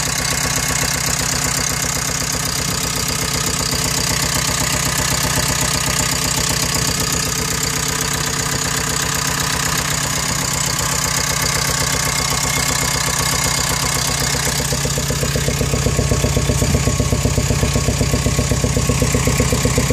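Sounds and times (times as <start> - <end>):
diesel engine idling: 0.0 - 19.9.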